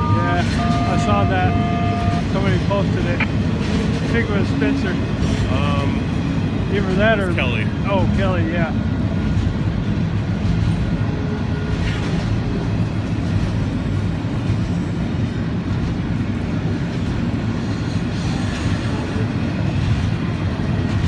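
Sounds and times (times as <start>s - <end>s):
train wheels rolling on rail: 0.0s - 21.0s.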